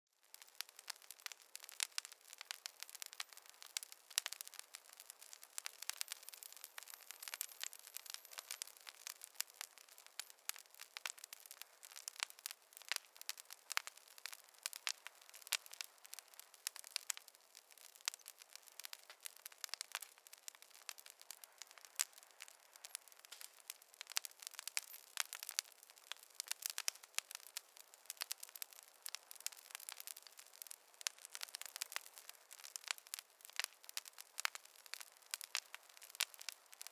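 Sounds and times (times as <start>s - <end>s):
faint hiss: 0.2s - 36.9s
wood fire crackling and popping: 0.2s - 36.9s.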